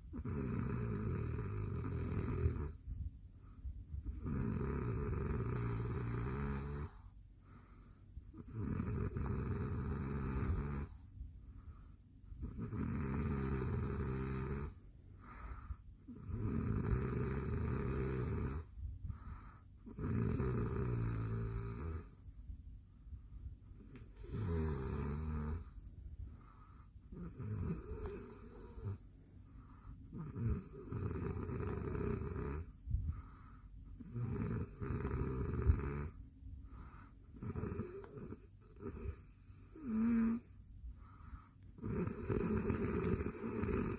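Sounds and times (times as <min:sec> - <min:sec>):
man snoring: 0:00.1 - 0:02.8, 0:04.0 - 0:07.1, 0:08.4 - 0:11.0, 0:12.4 - 0:22.2, 0:23.8 - 0:25.8, 0:26.4 - 0:29.0, 0:29.6 - 0:43.9.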